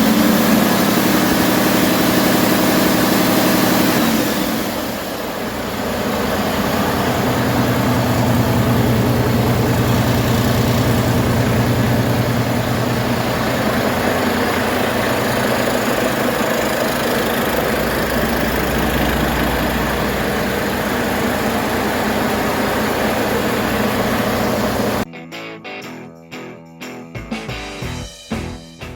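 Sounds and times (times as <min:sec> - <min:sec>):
diesel truck engine running: 0:00.0 - 0:25.1.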